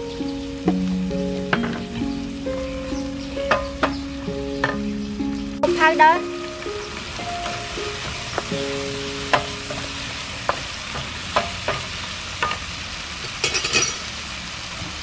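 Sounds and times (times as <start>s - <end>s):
tomatoes sizzling in oil: 0.0s - 15.0s.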